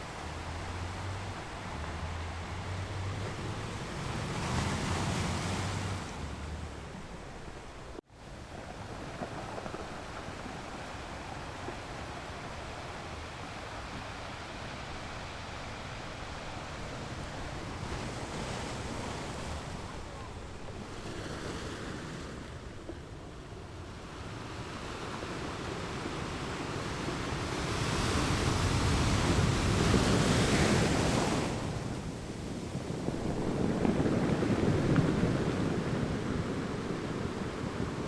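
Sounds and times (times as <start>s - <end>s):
ocean waves breaking on shore: 0.0s - 38.0s.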